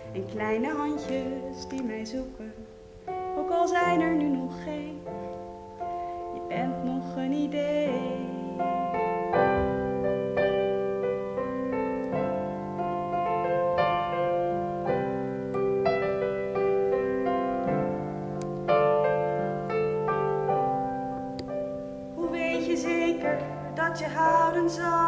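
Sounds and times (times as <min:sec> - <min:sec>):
digital piano chords and melody: 0:00.0 - 0:25.0.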